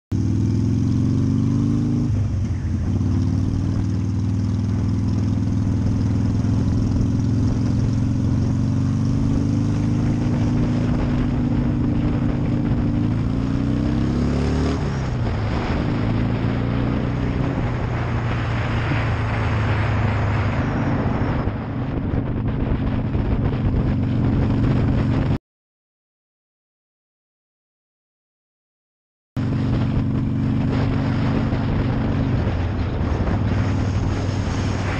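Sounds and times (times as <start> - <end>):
motorcycle engine revving: 0.1 - 25.4, 29.4 - 34.9
wind and road noise: 0.1 - 25.4, 29.4 - 34.9.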